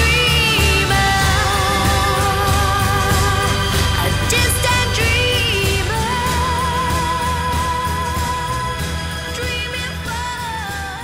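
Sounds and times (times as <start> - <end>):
song with steady beat: 0.0 - 11.0.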